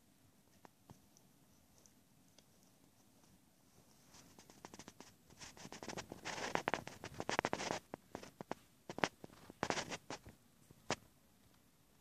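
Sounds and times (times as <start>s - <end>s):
cat licking fur: 0.4s - 10.3s.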